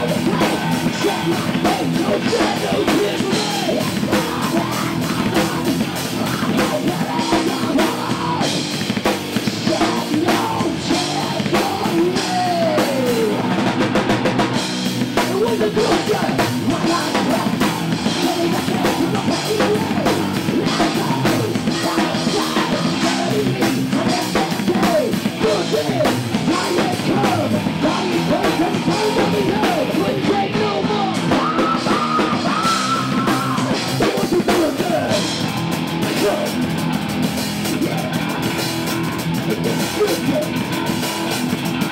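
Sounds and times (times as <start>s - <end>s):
fast drumming with cymbals: 0.0s - 41.9s
metal band playing live: 0.0s - 41.9s.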